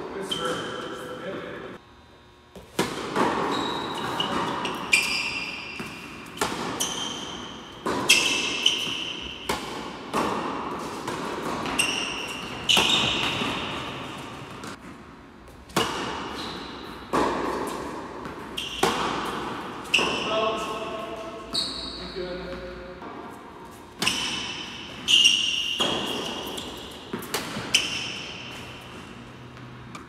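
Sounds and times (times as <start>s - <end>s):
rackets striking tennis ball: 2.5s - 21.8s, 22.4s - 30.0s
ball bouncing on hard court: 2.5s - 30.0s.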